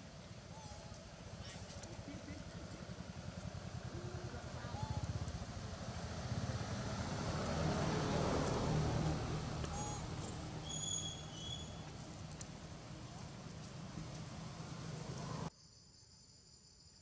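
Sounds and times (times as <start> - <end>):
passing vehicle engine: 1.0 - 15.5.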